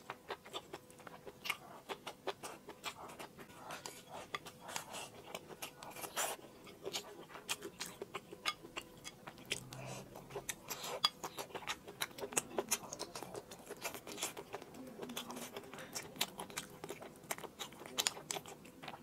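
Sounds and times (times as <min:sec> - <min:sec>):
chewing and mouth clicks: 0:00.0 - 0:19.0.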